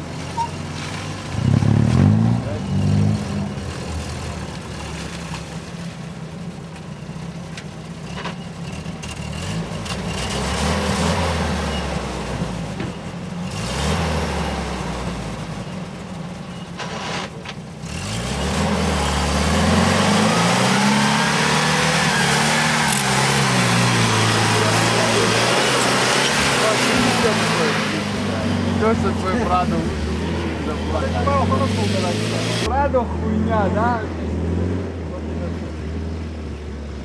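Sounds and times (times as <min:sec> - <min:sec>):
off-road vehicle engine revving: 0:00.0 - 0:05.8, 0:08.0 - 0:16.1, 0:16.8 - 0:37.0.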